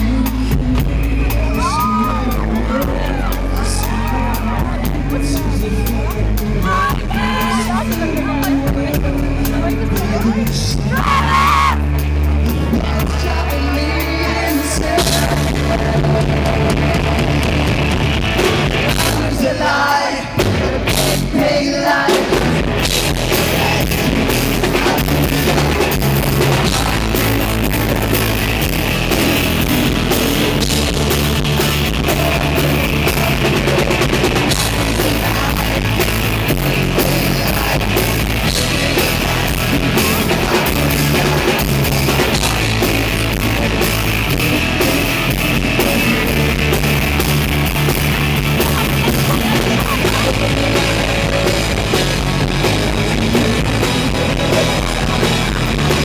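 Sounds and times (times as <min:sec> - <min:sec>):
live rock band playing: 0:00.0 - 0:56.0
man singing: 0:00.0 - 0:56.0.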